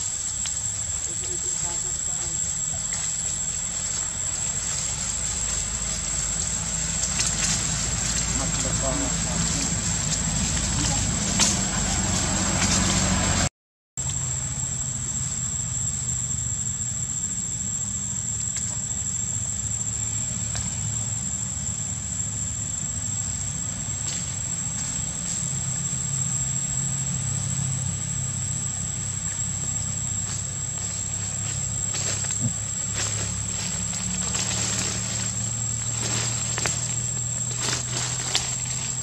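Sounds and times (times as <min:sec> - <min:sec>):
vehicle engine idling hum: 0:00.0 - 0:39.0.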